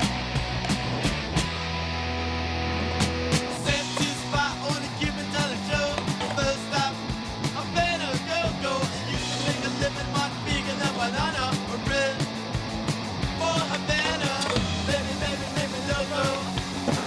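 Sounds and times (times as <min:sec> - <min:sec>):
fast rock music with singing: 0:00.0 - 0:17.0.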